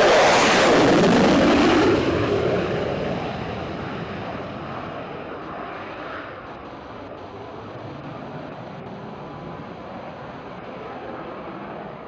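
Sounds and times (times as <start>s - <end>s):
jet engine roaring: 0.0s - 12.0s.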